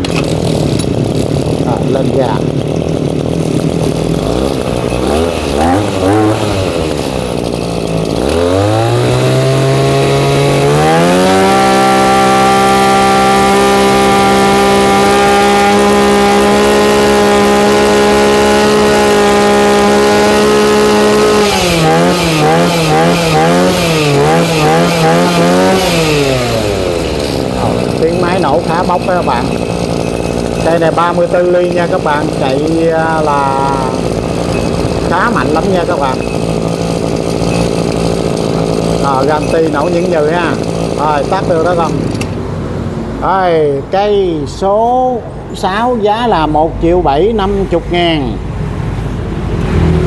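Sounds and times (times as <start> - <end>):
brush cutter engine revving: 0.0 - 50.0.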